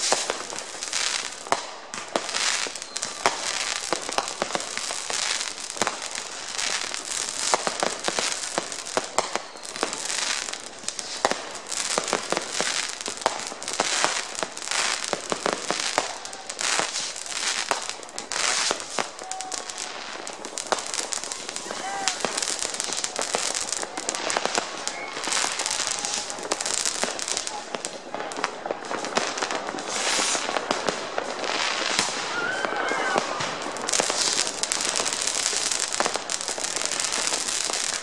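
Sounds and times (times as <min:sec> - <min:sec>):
fireworks bangs and crackles: 0:00.0 - 0:38.0
rockets firing: 0:00.0 - 0:38.0.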